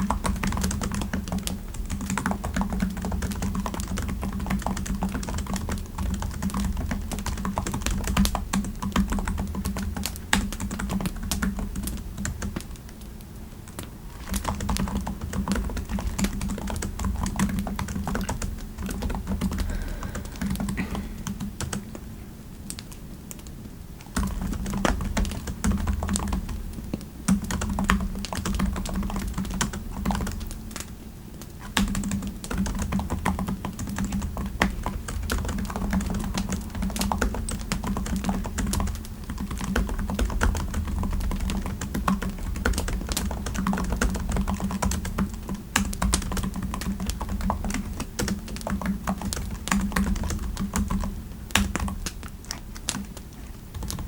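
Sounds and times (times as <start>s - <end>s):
typing on computer keyboard: 0.0s - 13.1s, 13.7s - 22.0s, 22.7s - 54.0s.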